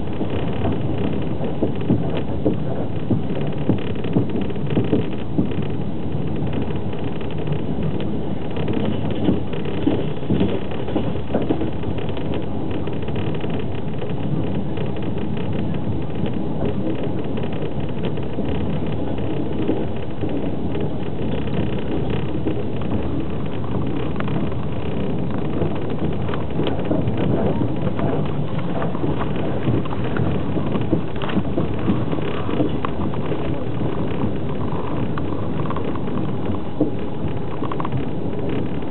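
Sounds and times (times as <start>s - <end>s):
clicks and rattles: 0.0s - 38.9s
train wheels rumbling on rails: 0.0s - 38.9s.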